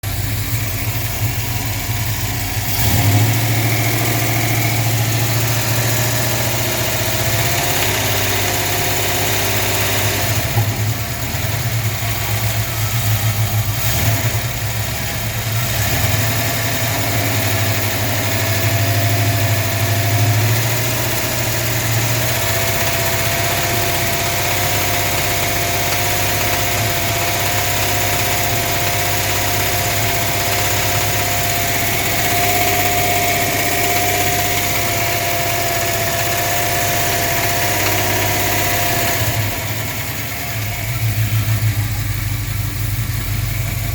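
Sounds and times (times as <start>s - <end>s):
car engine knocking and revving: 0.0s - 43.9s.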